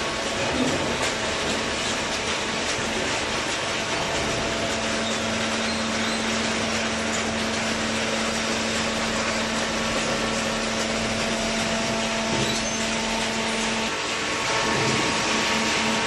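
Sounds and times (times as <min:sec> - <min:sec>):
baler machine hum with hiss: 0:00.0 - 0:16.0.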